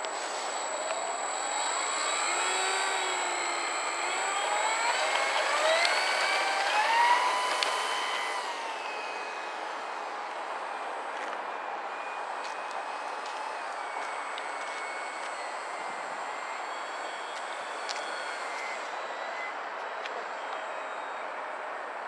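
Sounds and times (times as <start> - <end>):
model plane motor whining: 0.0 - 21.8.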